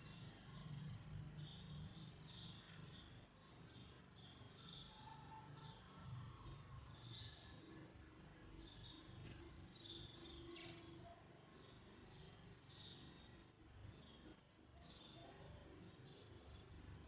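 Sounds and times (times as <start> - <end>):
sparrows chirping faintly: 0.0 - 17.0.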